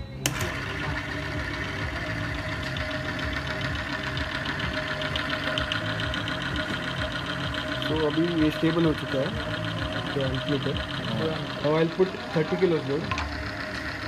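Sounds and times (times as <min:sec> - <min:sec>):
constant whine: 0:00.0 - 0:14.0
test rig mechanical hum: 0:00.0 - 0:14.0.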